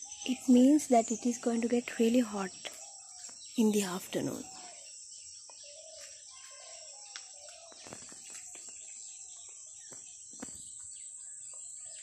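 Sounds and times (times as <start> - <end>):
birds calling: 0.0 - 12.0
insects droning: 0.0 - 12.0.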